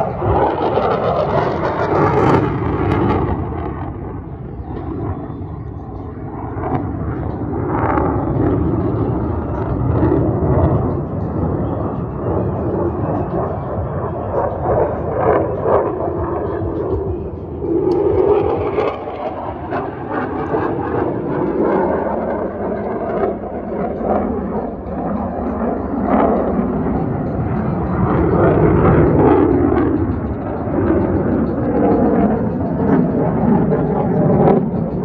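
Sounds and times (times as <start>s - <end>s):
jet flying overhead: 0.0s - 35.0s.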